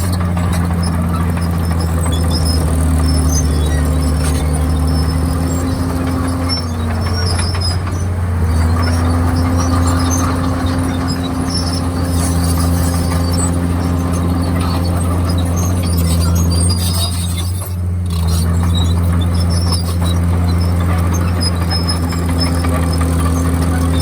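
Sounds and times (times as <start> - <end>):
bulldozer diesel engine under load: 0.0 - 24.0
squeaking tracks: 0.0 - 24.0.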